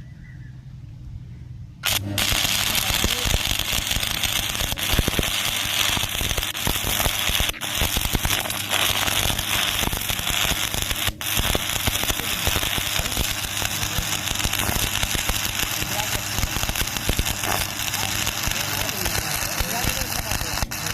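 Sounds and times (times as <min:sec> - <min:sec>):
low hum: 0:00.0 - 0:20.9
welding arc crackling sizzle: 0:01.8 - 0:20.9.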